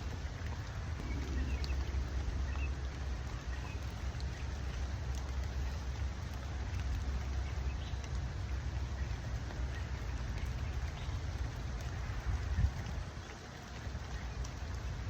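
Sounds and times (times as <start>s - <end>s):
low rumble: 0.0s - 13.1s
rain drop ticks: 0.0s - 15.0s
steady rain hiss: 0.0s - 15.0s.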